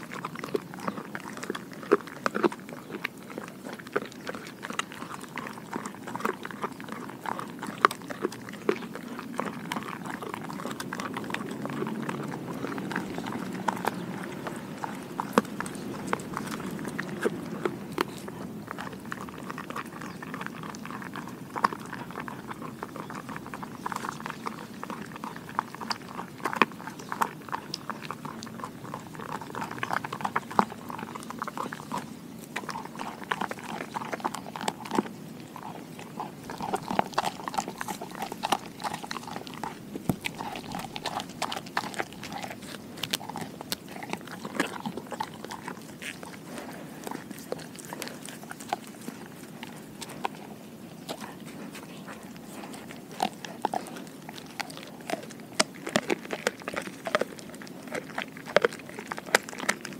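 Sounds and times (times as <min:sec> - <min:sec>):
dog crunching a chew: 0:00.0 - 0:59.9.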